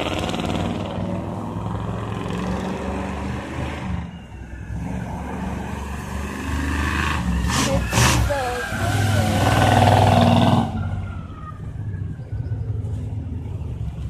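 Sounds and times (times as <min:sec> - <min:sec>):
monster truck engine drone: 0:00.0 - 0:14.0.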